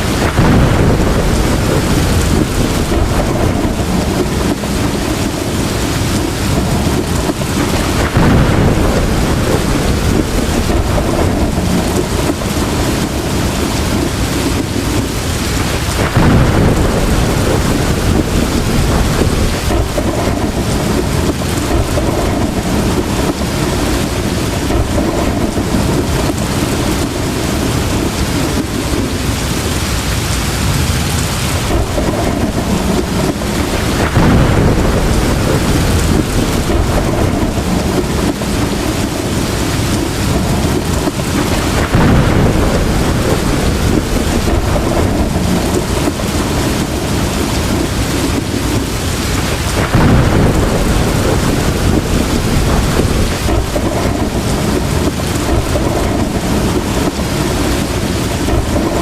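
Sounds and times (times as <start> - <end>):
heavy rain pouring: 0.0 - 59.0
thunder rumbling: 0.0 - 59.0.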